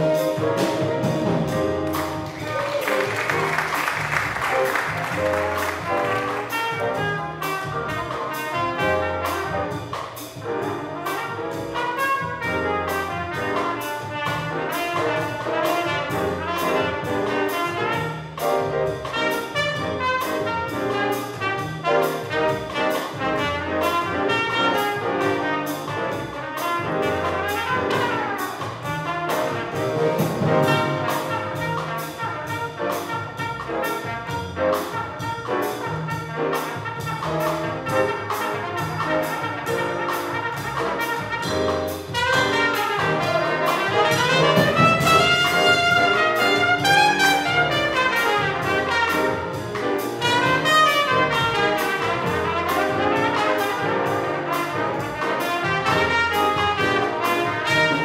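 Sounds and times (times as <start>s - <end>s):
jazz ensemble playing: 0.0s - 58.0s.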